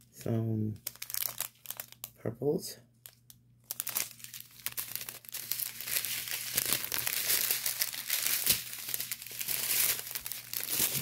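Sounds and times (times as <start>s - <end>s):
plastic bags crinkling: 0.8s - 2.1s, 3.0s - 11.0s.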